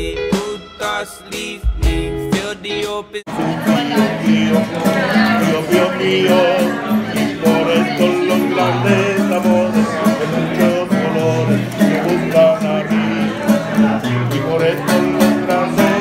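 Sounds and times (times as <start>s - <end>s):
acoustic guitar strummed: 0.0s - 16.0s
man singing: 0.0s - 16.0s.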